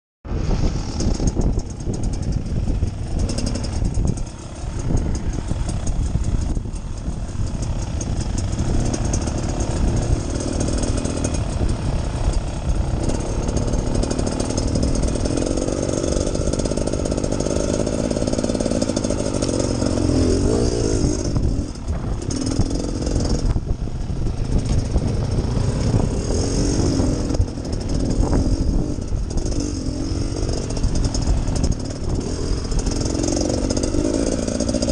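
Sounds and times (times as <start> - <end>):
dirt bike engine revving: 0.3 - 34.9.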